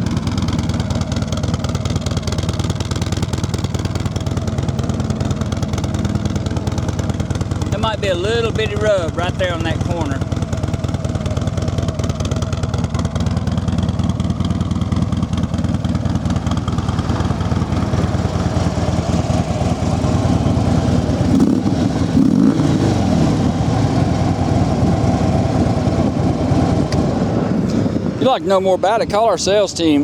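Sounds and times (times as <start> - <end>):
motorcycle engine revving: 0.0 - 28.6
motorcycle engine idling: 0.0 - 30.0.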